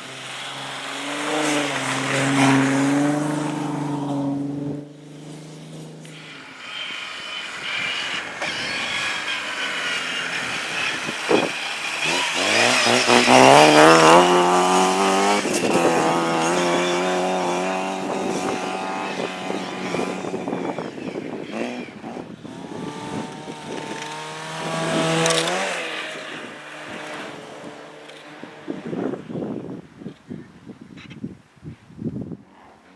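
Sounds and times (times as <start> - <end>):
car engine revving: 0.0 - 29.2.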